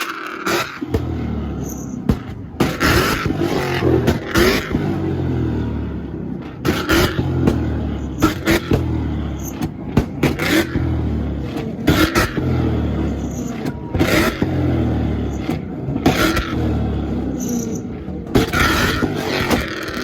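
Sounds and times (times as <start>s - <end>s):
exhaust banging and crackling: 0.0s - 20.0s
low engine note: 0.8s - 20.0s.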